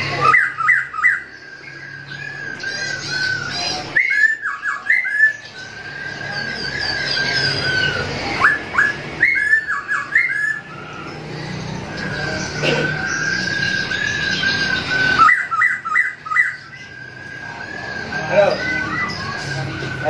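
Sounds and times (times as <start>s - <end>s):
high chirps: 0.0s - 20.0s
songbird singing: 0.0s - 20.0s.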